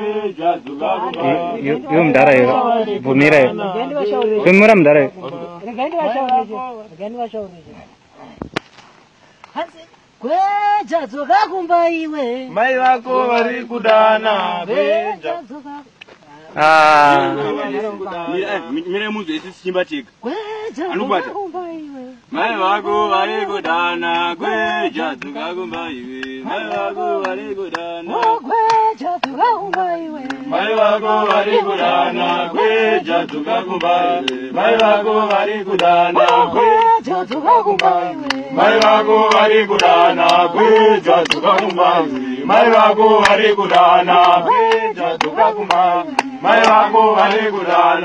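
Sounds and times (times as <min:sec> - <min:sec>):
men chanting: 0:00.0 - 0:07.1, 0:10.6 - 0:15.8, 0:16.5 - 0:21.6, 0:22.3 - 0:48.0.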